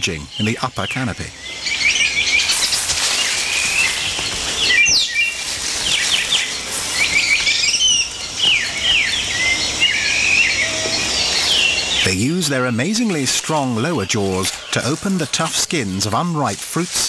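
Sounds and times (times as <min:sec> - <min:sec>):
high chirping calls: 0:00.0 - 0:16.9
steady hiss: 0:00.0 - 0:17.0.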